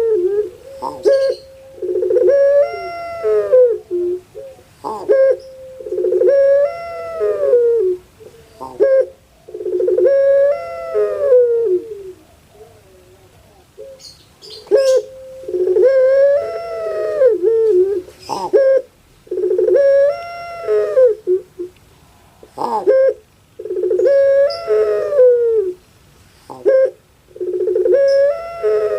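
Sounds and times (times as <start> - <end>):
dove cooing: 0.0 - 21.8, 22.4 - 25.8, 26.5 - 28.9.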